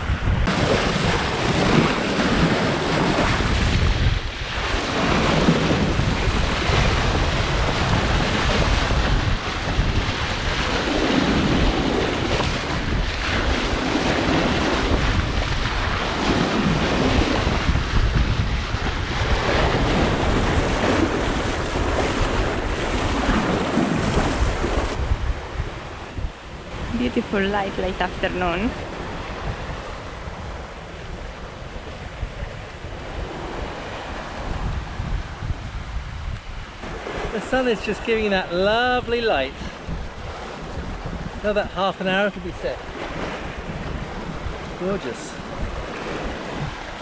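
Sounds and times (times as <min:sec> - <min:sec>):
sea water rushing along hull: 0:00.0 - 0:47.0
wind buffeting microphone: 0:00.0 - 0:47.0.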